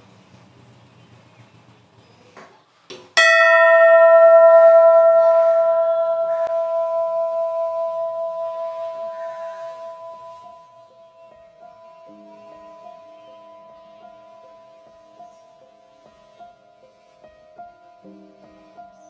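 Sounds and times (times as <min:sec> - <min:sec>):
brass bell ringing: 0:03.2 - 0:19.0.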